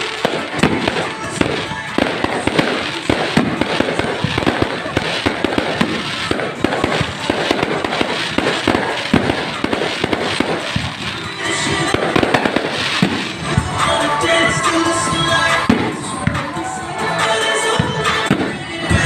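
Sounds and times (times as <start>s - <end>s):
fireworks bangs and crackles: 0.0s - 19.0s
music: 0.0s - 19.0s.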